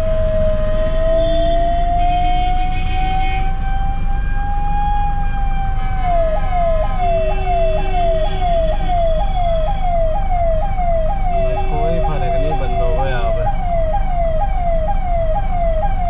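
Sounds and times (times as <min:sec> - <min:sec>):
ambulance siren wailing: 0:00.0 - 0:16.0.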